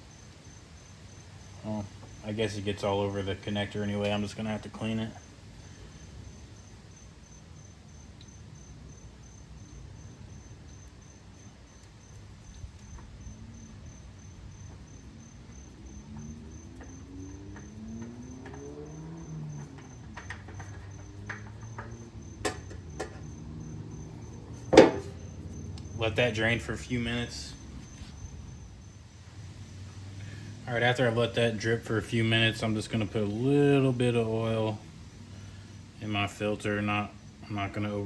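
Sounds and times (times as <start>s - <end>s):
insect trilling: 0.0s - 38.0s.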